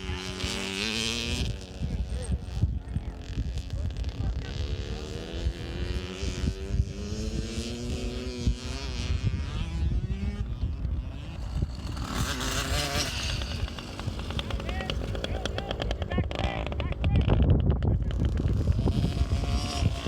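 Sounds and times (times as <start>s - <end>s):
dirt bike engine revving: 0.0s - 20.0s
wind buffeting microphone: 0.0s - 20.0s.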